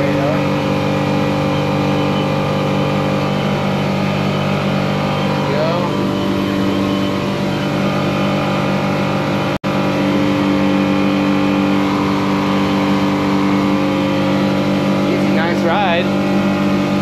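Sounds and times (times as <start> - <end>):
outboard motor at high revs: 0.0 - 17.0.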